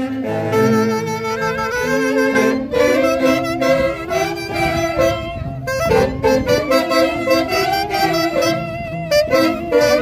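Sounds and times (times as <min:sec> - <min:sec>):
saxophone-led band playing: 0:00.0 - 0:10.0.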